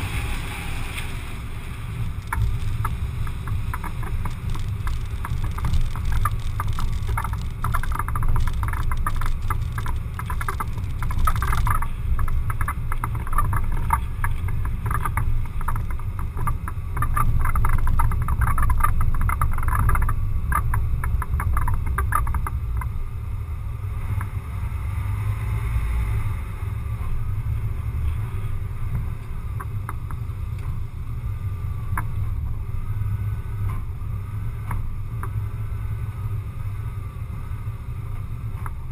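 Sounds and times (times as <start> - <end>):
rapid clatter over cracked road: 0.0 - 23.2, 23.9 - 38.9
tyre road noise: 0.0 - 38.9
wind rumble: 0.0 - 38.9.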